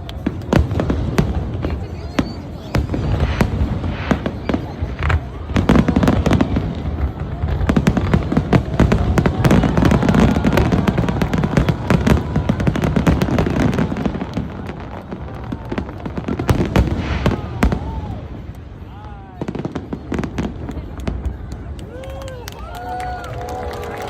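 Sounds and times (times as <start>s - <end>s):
low fireworks booms: 0.0s - 22.1s
fireworks crackling and banging: 0.0s - 24.0s.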